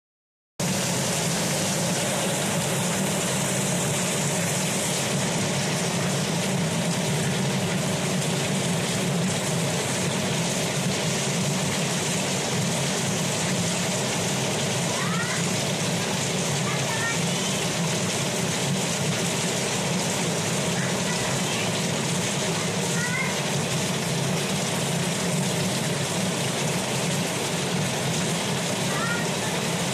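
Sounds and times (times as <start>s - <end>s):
water gushing onto ground: 0.6s - 29.9s.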